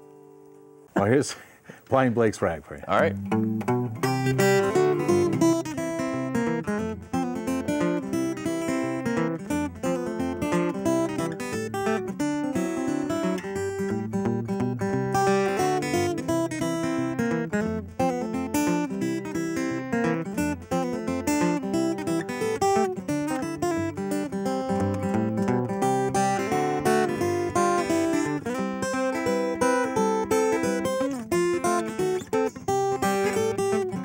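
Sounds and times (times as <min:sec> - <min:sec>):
fingerstyle acoustic guitar: 0:02.8 - 0:34.0.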